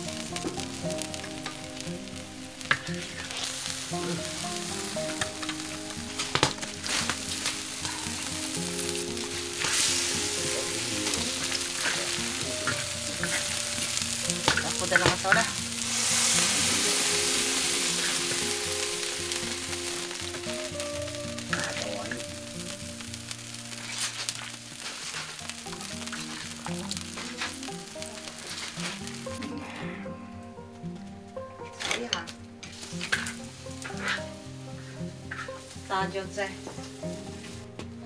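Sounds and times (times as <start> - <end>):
soft background music: 0.0 - 38.0
wok sizzling: 0.0 - 38.0.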